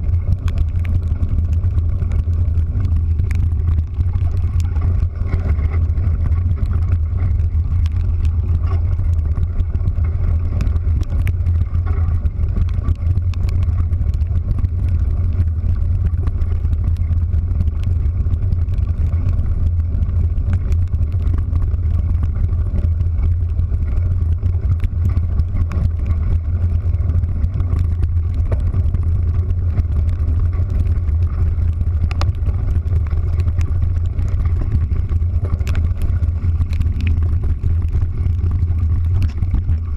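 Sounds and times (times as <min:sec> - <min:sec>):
light ticks: 0:00.0 - 0:39.9
vehicle engine droning: 0:00.0 - 0:39.9.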